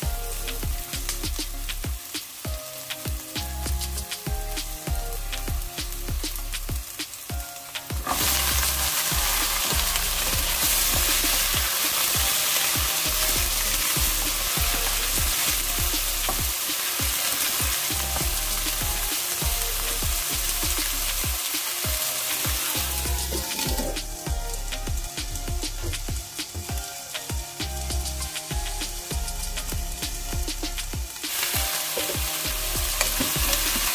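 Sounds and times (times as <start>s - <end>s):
beans sizzling in hot oil: 0.0s - 33.9s.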